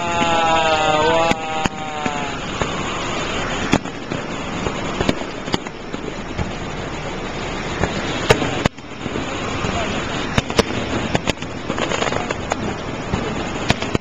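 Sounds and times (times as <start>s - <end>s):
fireworks bangs and cracks: 0.0s - 14.0s
steady background hiss: 0.0s - 14.0s.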